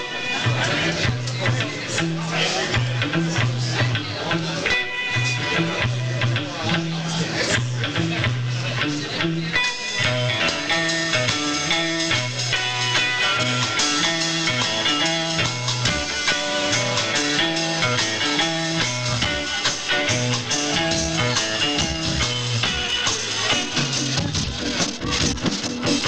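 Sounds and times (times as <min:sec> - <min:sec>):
drums: 0:00.0 - 0:26.0
guitar: 0:00.0 - 0:26.0
bass line: 0:00.4 - 0:26.0.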